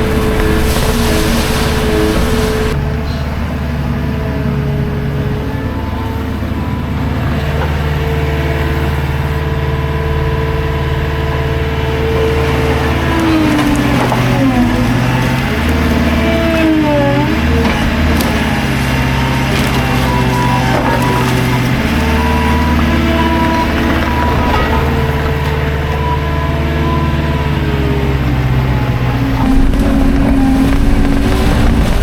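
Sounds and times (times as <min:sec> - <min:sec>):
skid steer engine running: 0:00.0 - 0:32.0.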